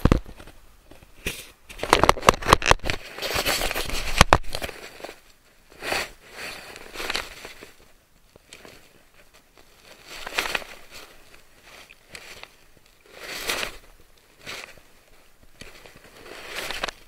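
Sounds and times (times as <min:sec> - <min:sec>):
soft rubs: 0:03.0 - 0:17.0.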